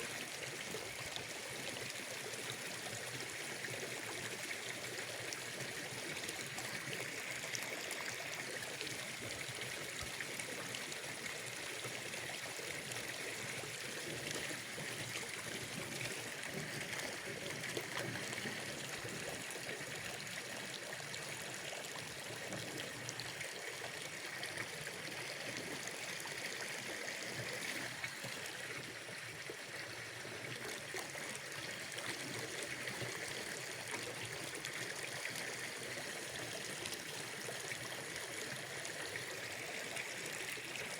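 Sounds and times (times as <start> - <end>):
water trickling: 0.1 - 40.9.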